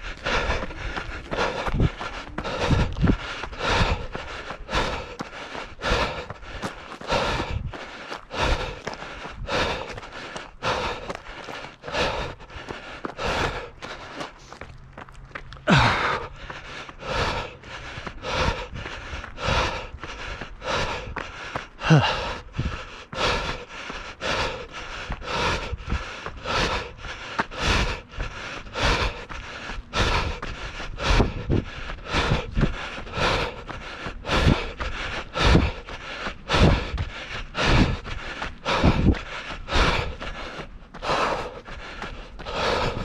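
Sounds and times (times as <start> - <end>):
runner breathing hard: 0.0 - 43.0.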